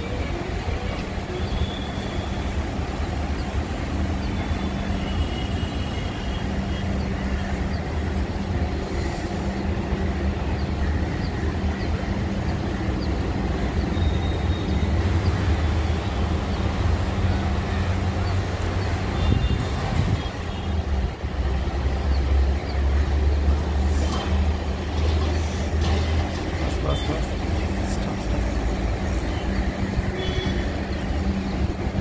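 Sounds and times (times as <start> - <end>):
electric train rumble: 0.0 - 32.0.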